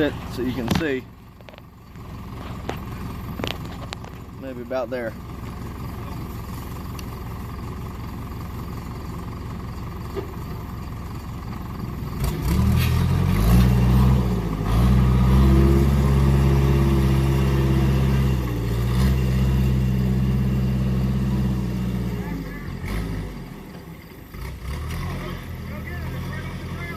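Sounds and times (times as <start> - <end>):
backhoe diesel engine revving: 0.0 - 26.9.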